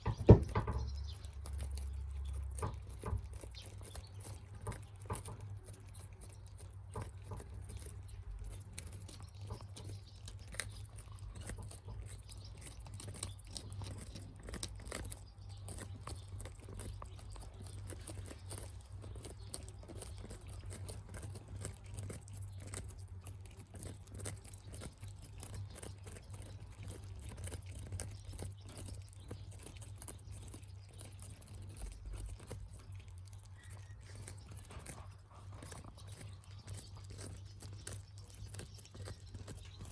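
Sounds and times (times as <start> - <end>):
birds pecking and chewing food: 0.0 - 39.9
low steady hum: 0.0 - 39.9.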